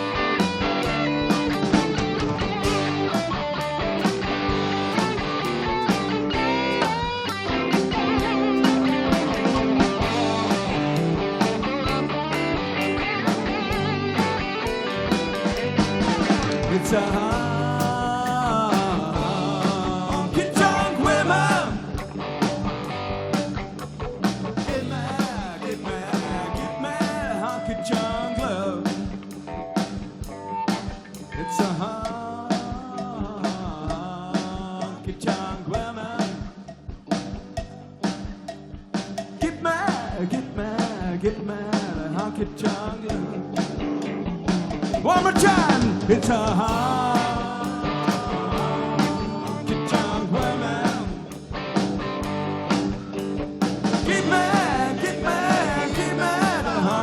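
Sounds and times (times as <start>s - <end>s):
drums beat: 0.0s - 57.0s
rock band playing: 0.0s - 57.0s.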